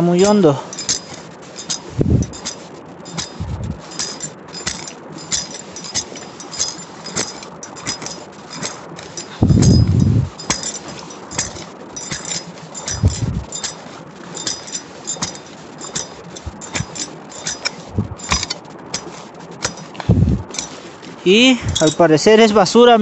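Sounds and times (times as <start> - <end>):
hand digger scraping stony soil: 0.0 - 22.8
dull thuds: 0.7 - 20.8.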